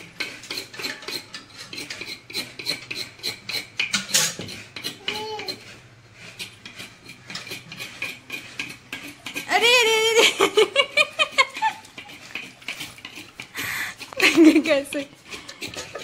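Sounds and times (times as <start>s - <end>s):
coconut scraping: 0.0s - 16.0s.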